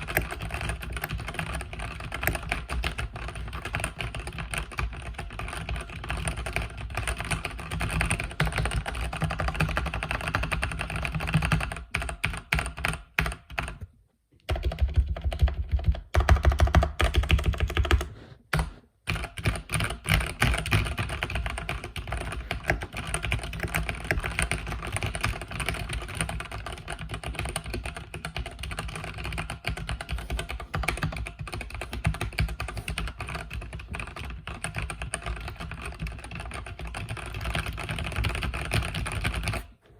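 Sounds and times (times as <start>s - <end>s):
mechanical keyboard typing: 0.0s - 39.7s.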